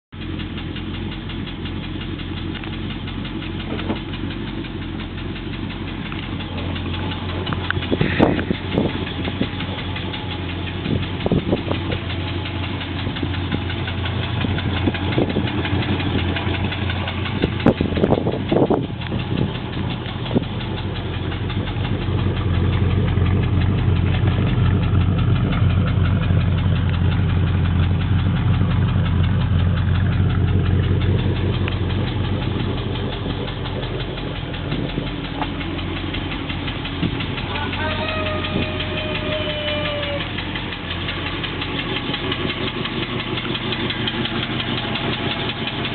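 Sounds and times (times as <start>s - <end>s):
car engine idling with knock: 0.1s - 45.9s
sharp engine clacks: 0.2s - 45.9s.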